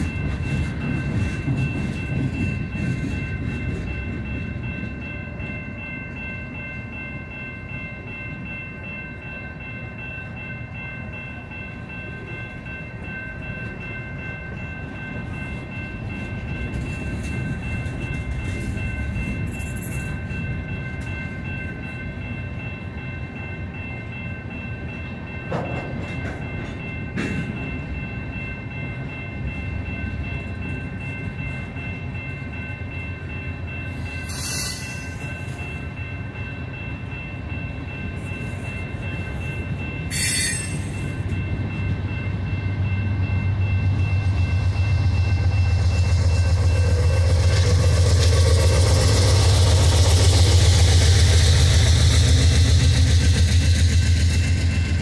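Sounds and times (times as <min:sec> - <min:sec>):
train cars clanking: 0:00.0 - 0:55.0
train wheels rumbling on rail: 0:00.0 - 0:55.0.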